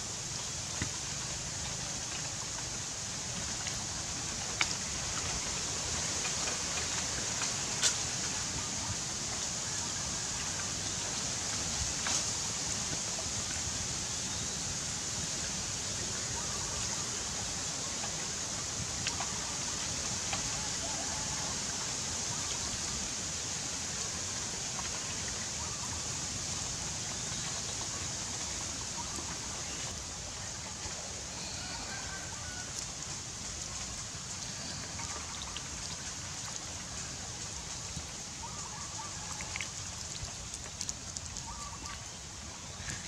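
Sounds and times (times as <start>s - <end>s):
steady outdoor hiss: 0.0s - 43.0s.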